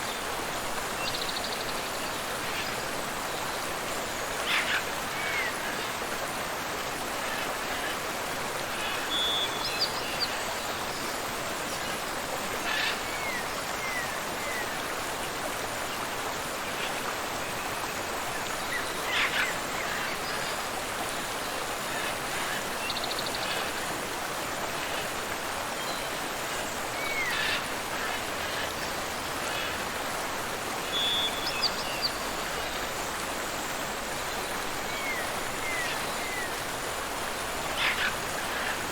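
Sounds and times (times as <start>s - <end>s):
waterfall and river rushing: 0.0s - 38.9s.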